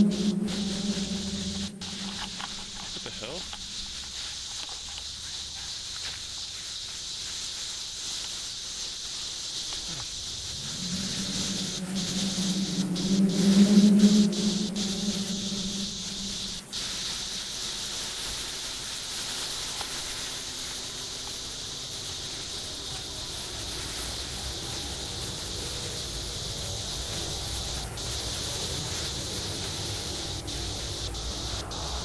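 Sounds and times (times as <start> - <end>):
thin high whine: 0.0 - 4.0, 9.6 - 32.0
steady hiss: 0.0 - 32.0.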